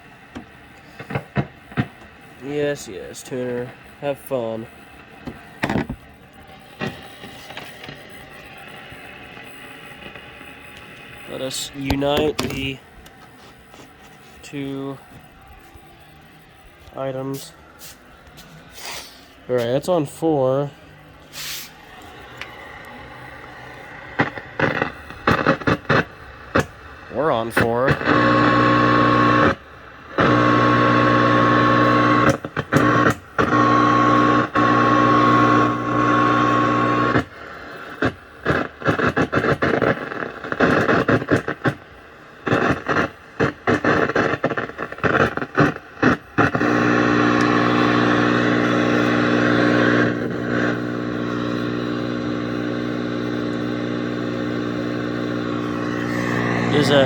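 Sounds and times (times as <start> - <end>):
electrical buzz from television speaker: 0.0 - 57.0.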